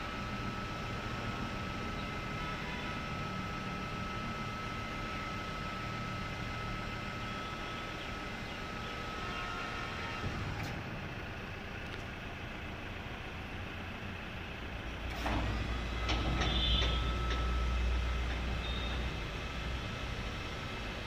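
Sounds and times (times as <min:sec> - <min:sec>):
hydraulic pump hum: 0:00.0 - 0:21.0.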